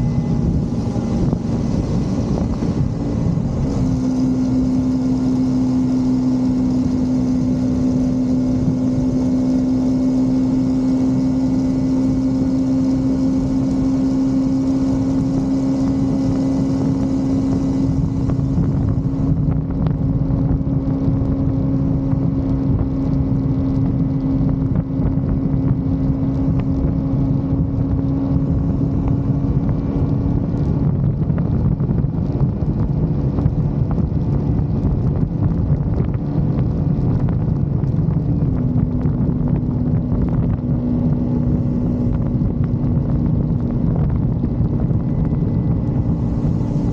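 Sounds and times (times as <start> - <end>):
motorcycle engine running: 0.0 - 46.9
wind rushing over microphone: 0.0 - 46.9.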